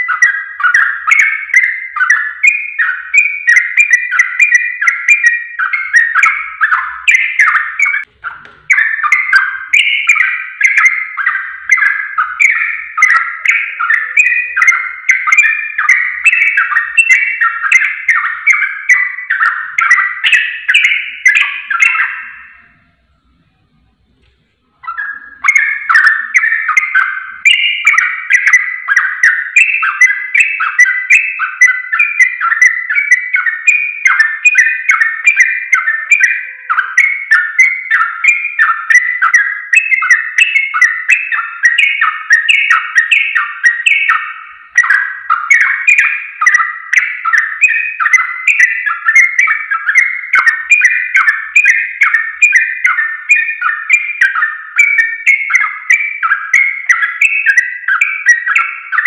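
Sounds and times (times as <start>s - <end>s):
bird singing chattering notes: 0.0s - 59.0s.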